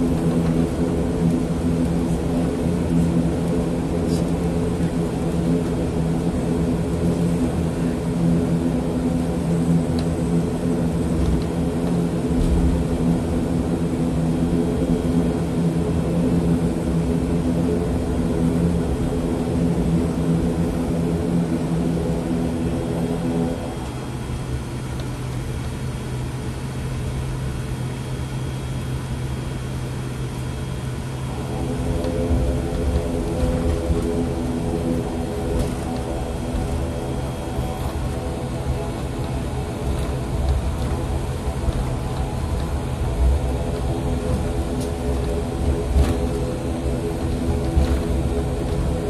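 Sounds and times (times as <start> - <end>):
turboprop engine hum: 0.0 - 49.0.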